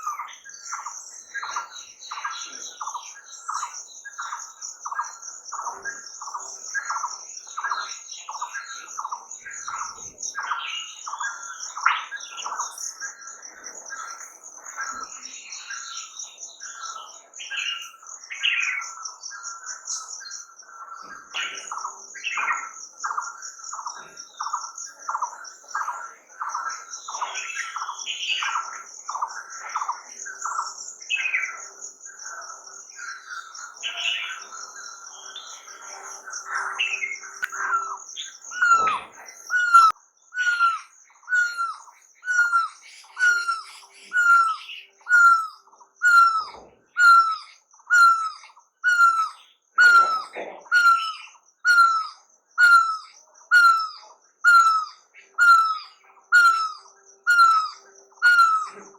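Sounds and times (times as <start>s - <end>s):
birds chirping: 0.0s - 58.9s
high steady bird trill: 0.0s - 58.9s.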